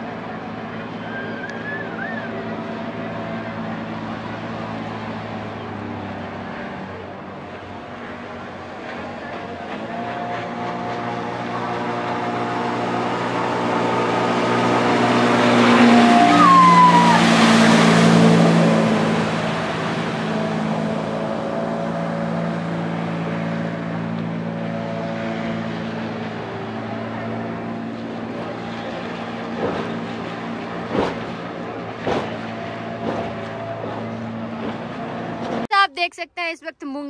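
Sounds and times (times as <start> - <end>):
watercraft engine passing: 0.0 - 35.7.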